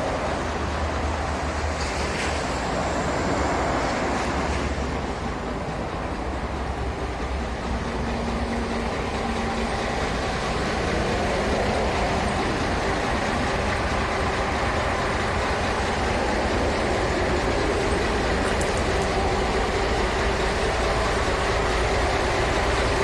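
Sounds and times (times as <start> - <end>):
diesel truck engine idling: 0.0 - 1.8, 2.4 - 23.0.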